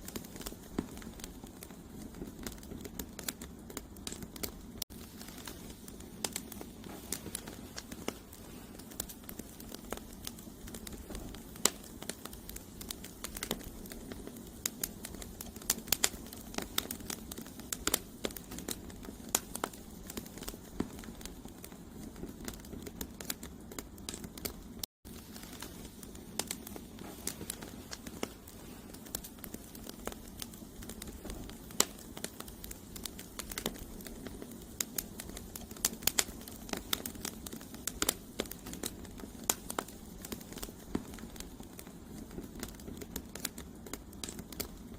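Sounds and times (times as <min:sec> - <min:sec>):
campfire crackling: 0:00.0 - 0:44.9
low rush of flame: 0:00.0 - 0:44.9.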